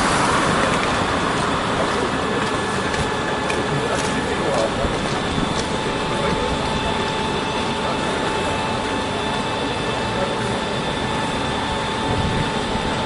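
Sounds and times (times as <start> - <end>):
rumbling street hum: 0.0 - 13.0
trolleybus electrical whine: 0.0 - 13.0.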